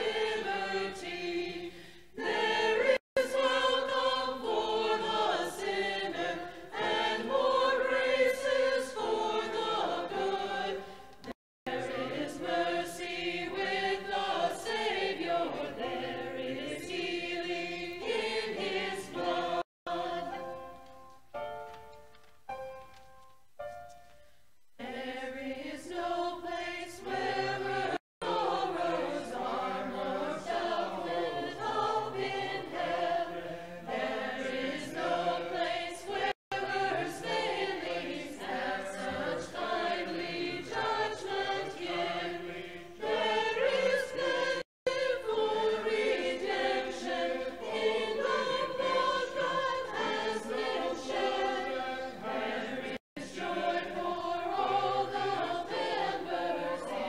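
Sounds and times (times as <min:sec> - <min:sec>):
mixed choir singing: 0:00.0 - 0:20.7, 0:24.8 - 0:57.0.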